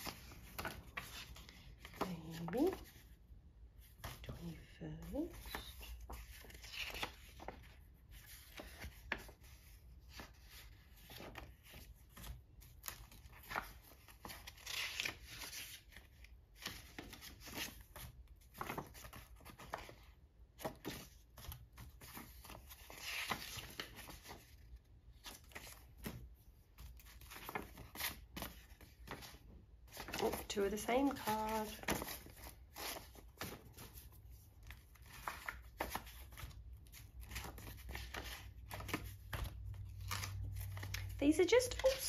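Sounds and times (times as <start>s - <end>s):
paper cards rustling and sliding: 0.0s - 42.0s.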